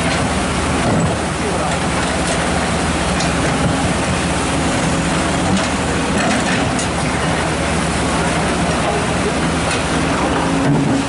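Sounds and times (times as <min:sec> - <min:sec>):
excavator diesel engine running: 0:00.0 - 0:11.0
rushing floodwater: 0:00.0 - 0:11.0.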